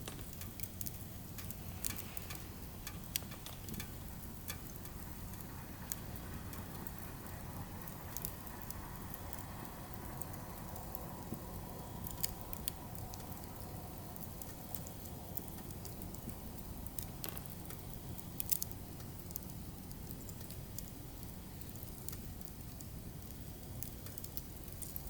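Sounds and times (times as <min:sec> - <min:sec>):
firewood crackling and popping: 0:00.0 - 0:25.0
low fire rumble: 0:00.0 - 0:25.0.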